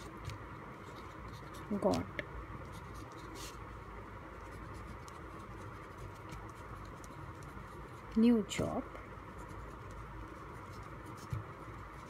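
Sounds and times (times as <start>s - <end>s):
pen scratching on paper: 0.0s - 3.6s, 4.4s - 8.3s, 9.3s - 12.0s
low room hum: 0.0s - 12.0s.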